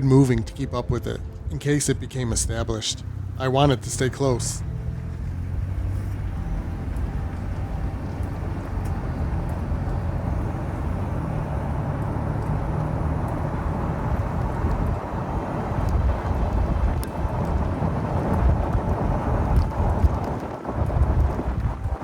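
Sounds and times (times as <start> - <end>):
car engine and road rumble: 0.1 - 22.0.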